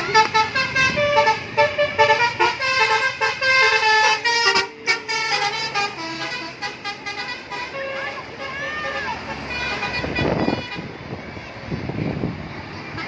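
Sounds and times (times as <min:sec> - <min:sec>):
multi-tone musical air horn: 0:00.0 - 0:10.9.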